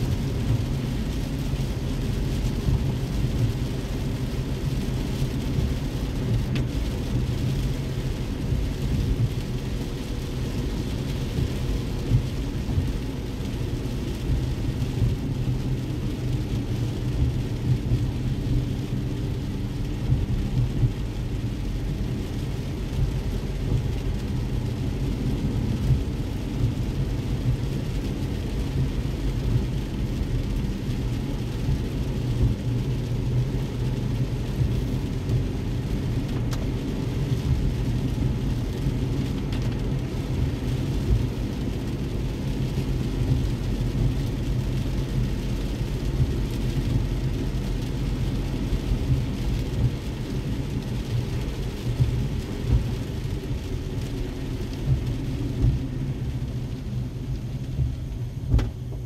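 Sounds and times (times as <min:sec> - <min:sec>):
car driving on wet road: 0:00.0 - 0:59.0
rain hissing on car: 0:00.0 - 0:59.0.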